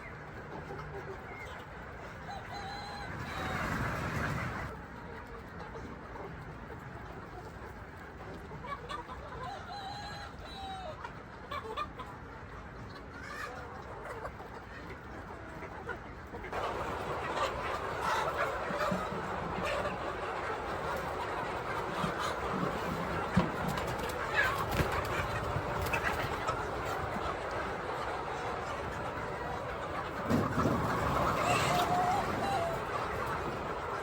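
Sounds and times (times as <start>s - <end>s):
chickens clucking and calling: 0.0s - 34.0s.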